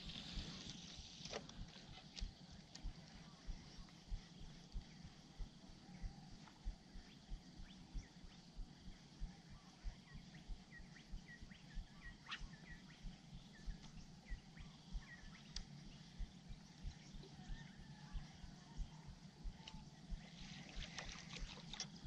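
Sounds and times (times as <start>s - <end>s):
small birds chirping: 1.8s - 22.0s.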